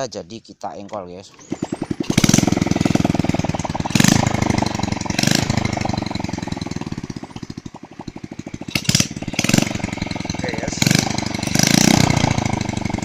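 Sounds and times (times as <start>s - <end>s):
motorcycle engine revving: 1.3s - 13.0s.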